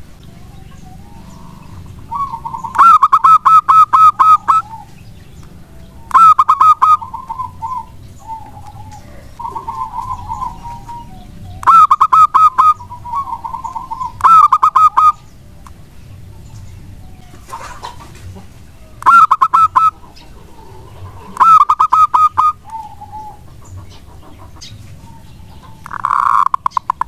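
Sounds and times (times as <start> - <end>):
dove cooing: 0.0 - 27.0.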